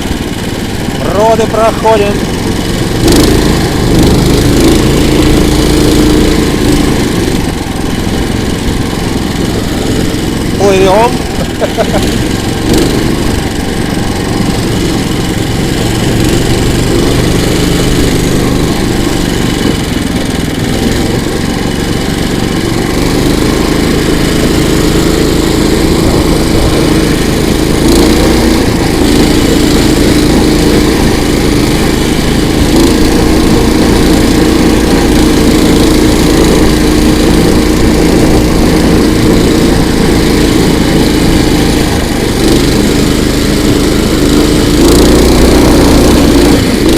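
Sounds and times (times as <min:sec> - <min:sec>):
towing sled engine running: 0:00.0 - 0:46.9.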